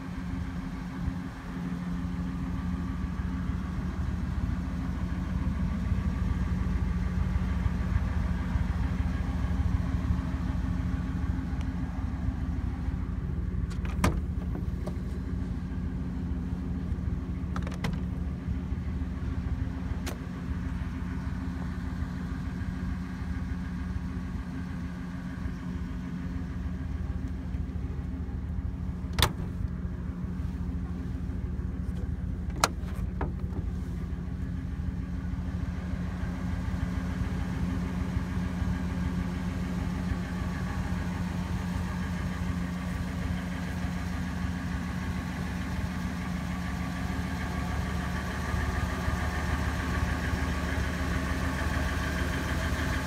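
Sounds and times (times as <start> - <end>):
van engine idling: 0.0 - 53.0.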